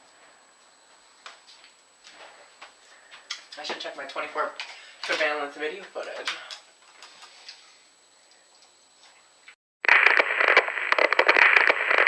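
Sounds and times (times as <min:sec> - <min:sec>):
crackling static with clicks: 0:00.0 - 0:12.0.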